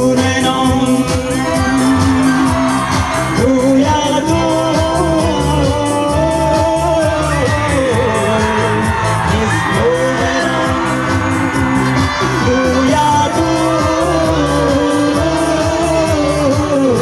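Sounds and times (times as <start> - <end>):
musical accompaniment with beat: 0.0 - 17.0
person singing: 0.0 - 17.0.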